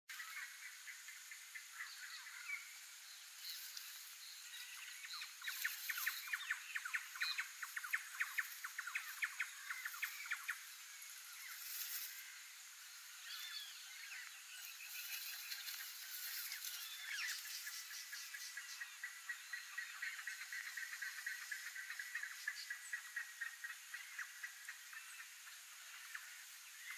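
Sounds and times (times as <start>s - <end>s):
birds chirping: 0.1s - 26.9s.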